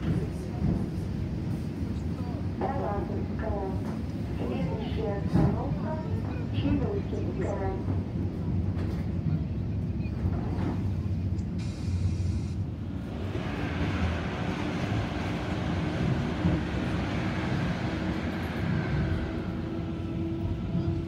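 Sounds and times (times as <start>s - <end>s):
passing electric train: 0.0s - 21.0s
train wheels rumbling on rail: 0.0s - 21.0s.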